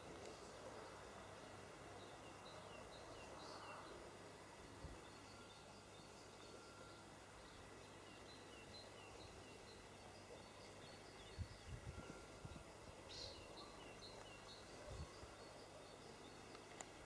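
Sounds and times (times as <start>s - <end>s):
faint bird chirps: 0.3s - 17.0s.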